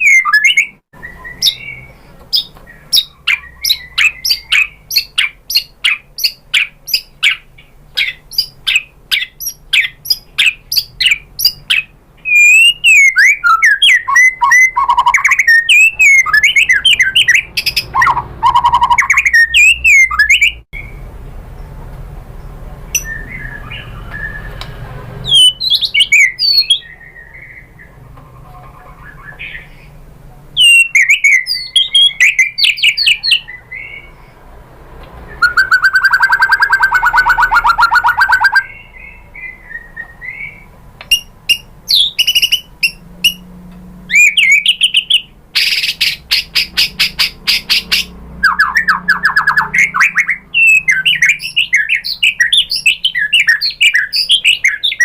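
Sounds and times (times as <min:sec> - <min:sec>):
bird singing warbling phrases: 0:00.0 - 0:21.7, 0:22.9 - 0:30.0, 0:30.6 - 0:34.4, 0:35.3 - 0:43.5, 0:44.1 - 0:55.0.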